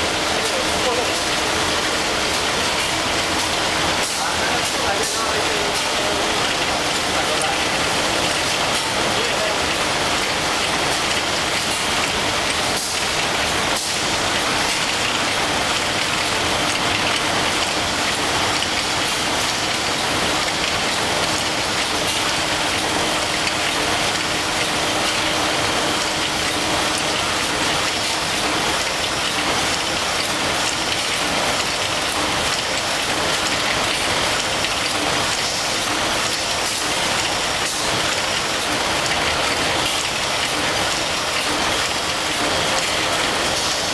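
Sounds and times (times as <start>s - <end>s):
machinery hissing clatter: 0.0s - 43.9s.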